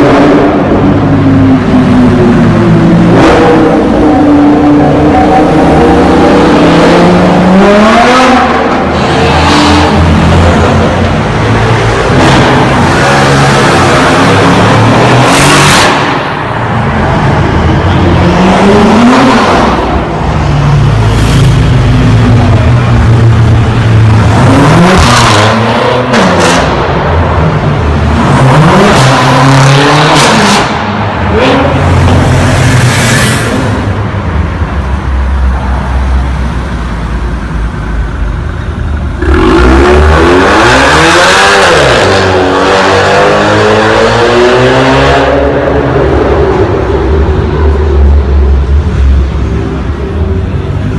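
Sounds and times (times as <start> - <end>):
supercar engines revving: 0.0 - 50.9.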